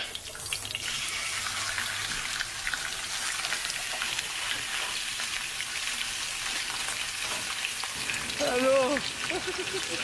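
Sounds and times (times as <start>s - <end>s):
food sizzling in hot oil: 0.0s - 10.0s
oil crackles: 0.0s - 10.0s.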